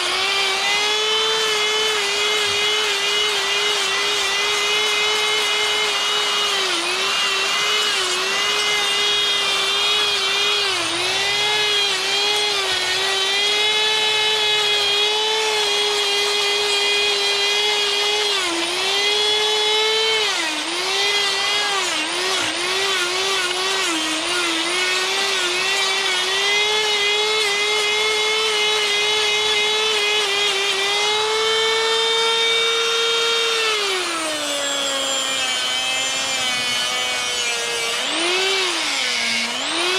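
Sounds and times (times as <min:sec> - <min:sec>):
die grinder whining into wood: 0:00.0 - 0:39.9.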